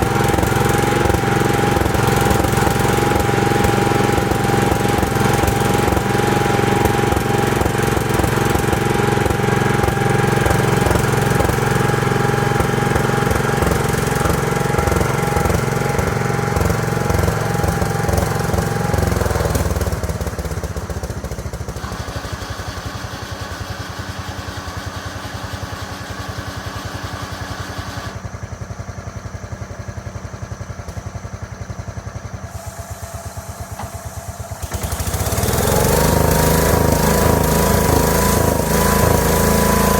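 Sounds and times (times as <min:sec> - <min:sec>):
small engine whining: 0:00.0 - 0:39.9.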